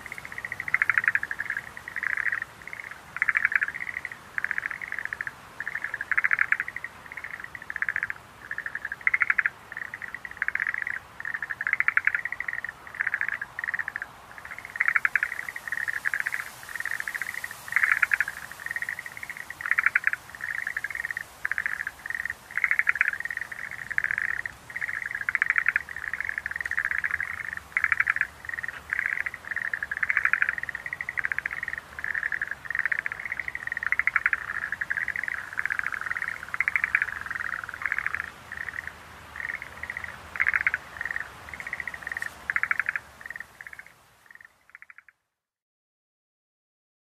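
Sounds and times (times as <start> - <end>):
tree frogs calling in chorus: 0.0 - 45.3.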